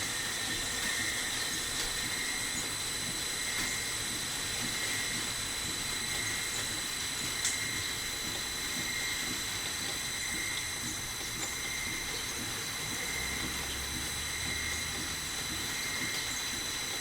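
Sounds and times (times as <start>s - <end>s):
lathe running with high whine: 0.0s - 17.0s.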